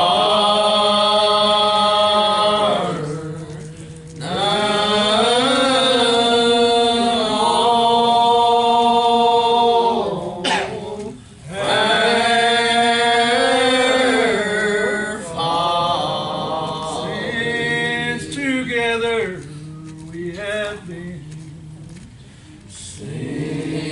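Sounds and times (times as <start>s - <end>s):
voices singing a slow hymn: 0.0s - 23.9s.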